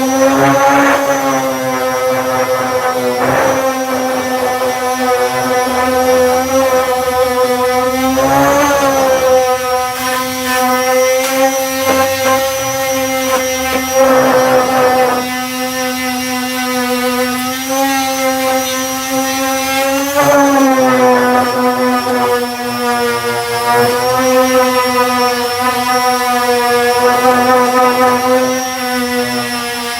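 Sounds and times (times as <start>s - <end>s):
disc sander motor hum: 0.0s - 29.9s
scratchy sanding on filler: 0.0s - 29.9s.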